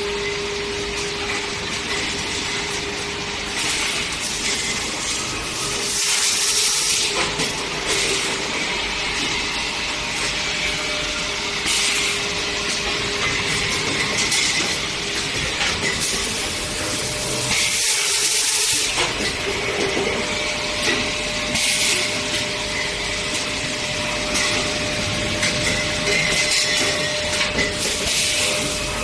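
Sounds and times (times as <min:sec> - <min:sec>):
machinery running: 0:00.0 - 0:29.0.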